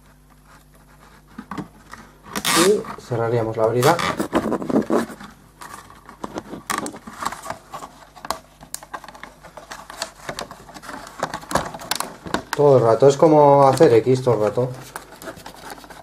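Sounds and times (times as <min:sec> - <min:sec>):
plastic shell scraping: 0:00.0 - 0:16.0.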